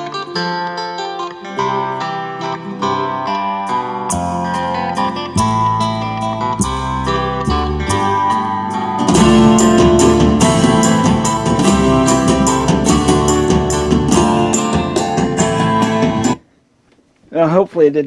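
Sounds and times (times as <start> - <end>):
band music through a speaker: 0.0 - 16.4.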